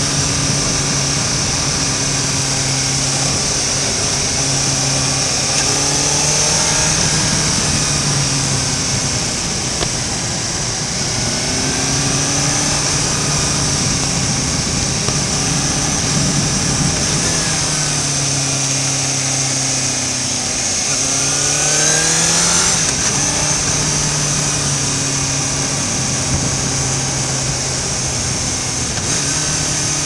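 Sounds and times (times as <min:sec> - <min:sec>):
motorcycle engine accelerating: 0:00.0 - 0:30.0
wind and road noise: 0:00.0 - 0:30.0.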